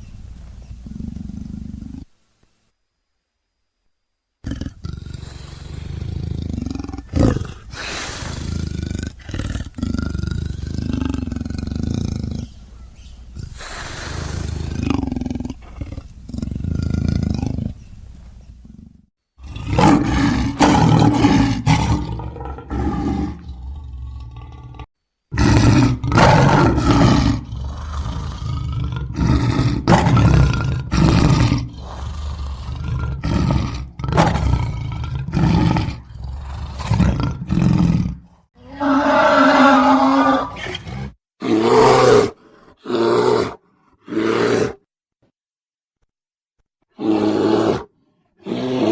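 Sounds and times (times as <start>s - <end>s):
bear growling and roaring: 4.4s - 12.6s, 13.3s - 17.9s, 18.6s - 44.9s, 46.9s - 48.9s.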